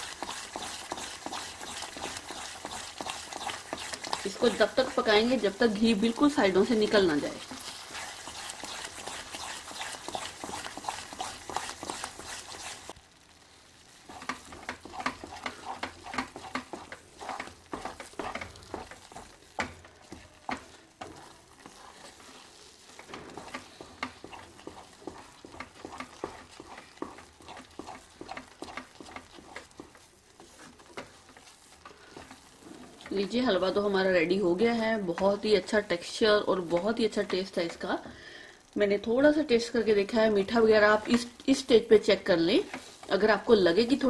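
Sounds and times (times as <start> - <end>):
wooden spatula scraping a pan: 0.0 - 13.0, 13.8 - 38.1, 39.4 - 44.0
sizzling in a pan: 0.0 - 44.0.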